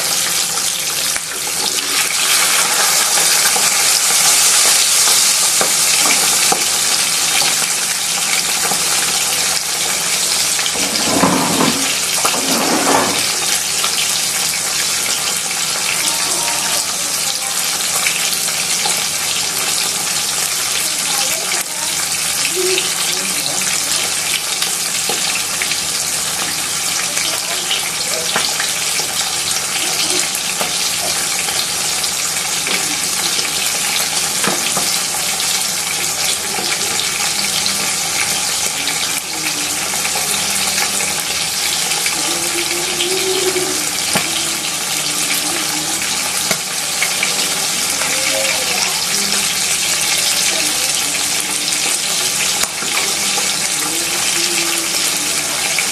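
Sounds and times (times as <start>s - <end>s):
fish frying in hot oil: 0.0s - 55.9s.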